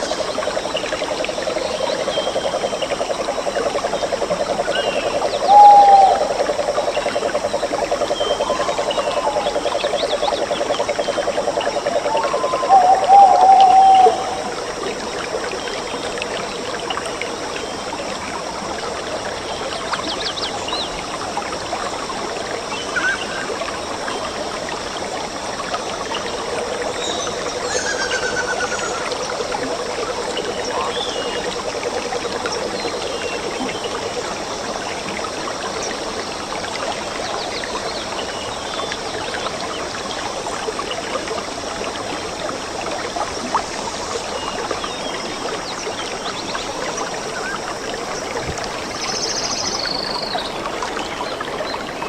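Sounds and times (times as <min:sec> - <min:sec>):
forest stream running: 0:00.0 - 0:52.0.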